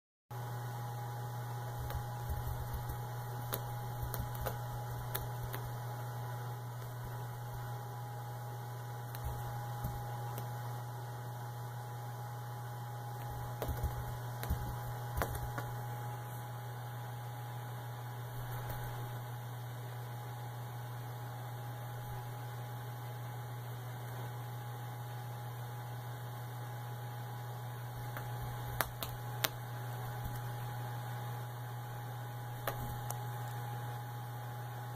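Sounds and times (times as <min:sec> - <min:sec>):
low electrical hum: 0:00.3 - 0:34.9.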